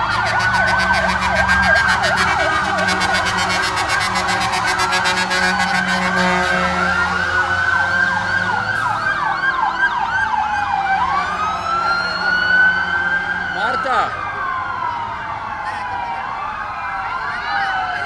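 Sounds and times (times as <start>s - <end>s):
fire engine sirens: 0.0s - 18.0s.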